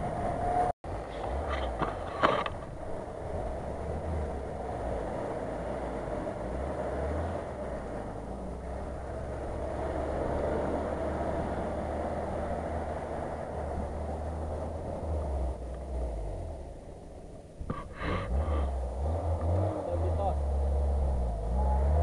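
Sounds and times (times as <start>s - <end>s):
engine drone: 0.0s - 22.0s.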